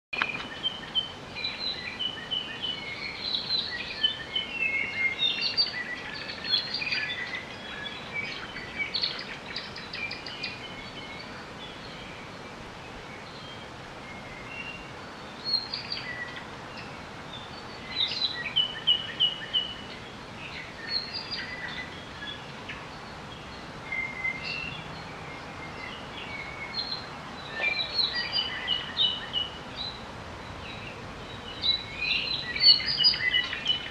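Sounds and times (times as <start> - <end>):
forest birds chirping and trilling: 0.2 - 33.9
steady background hiss: 0.2 - 33.9.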